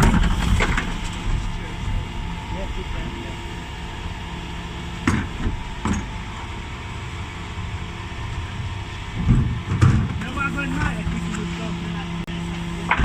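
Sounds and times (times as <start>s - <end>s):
lorry engine running: 0.0s - 13.0s.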